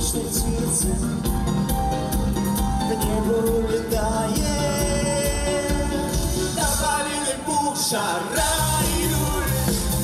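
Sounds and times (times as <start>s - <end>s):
drum kit beat: 0.0s - 7.3s, 8.3s - 10.0s
bass guitar: 0.0s - 7.6s, 8.3s - 10.0s
electric guitars: 0.0s - 10.0s.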